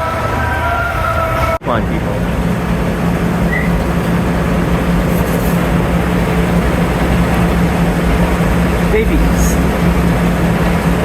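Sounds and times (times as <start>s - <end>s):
low mechanical hum of city street: 0.0s - 11.0s.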